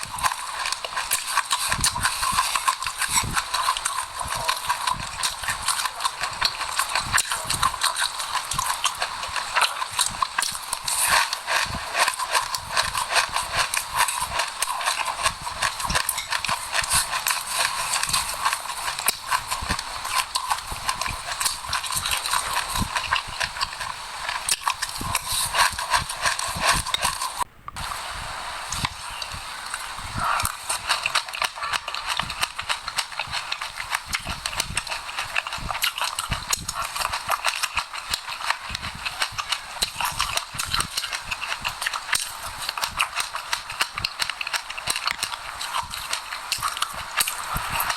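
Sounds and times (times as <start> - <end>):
crunchy chewing of seeds: 0.0 - 47.9.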